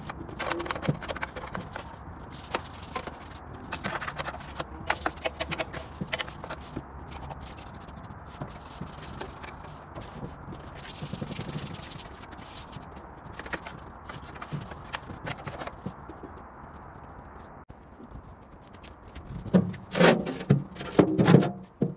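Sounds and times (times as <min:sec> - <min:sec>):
scraping and rubbing: 0:00.0 - 0:16.4, 0:18.1 - 0:21.9.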